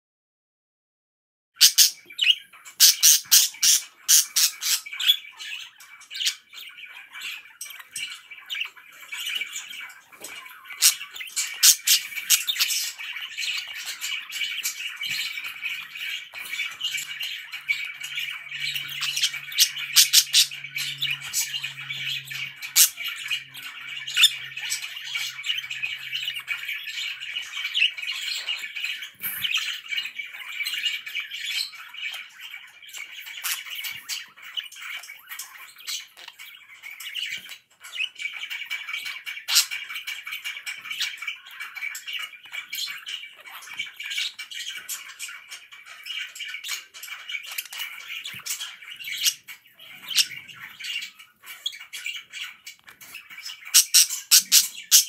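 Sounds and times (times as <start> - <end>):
budgerigar chattering and chirping: 1.6 - 55.0.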